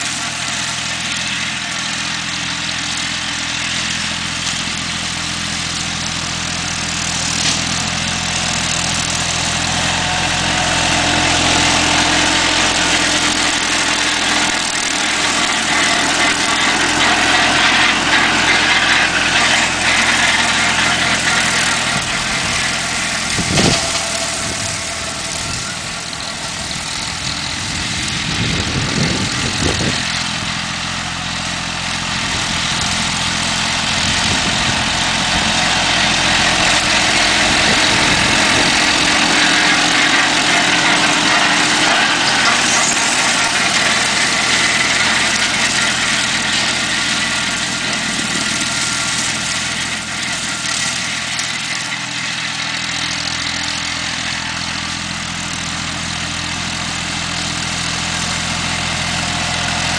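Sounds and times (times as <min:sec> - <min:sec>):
tractor diesel engine mowing: 0:00.0 - 0:59.9.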